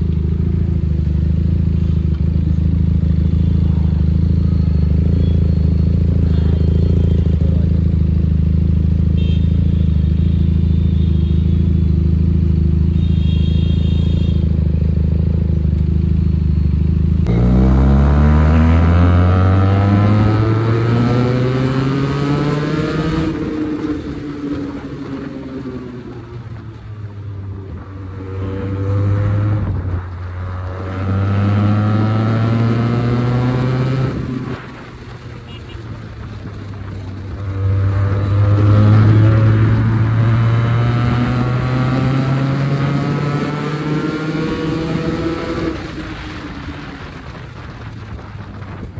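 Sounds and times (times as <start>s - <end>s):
motorcycle engine revving: 0.0s - 48.8s.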